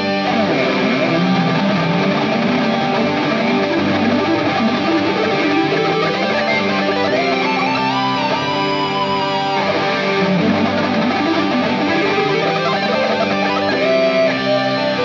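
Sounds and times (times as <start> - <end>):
guitar background music: 0.0 - 15.0.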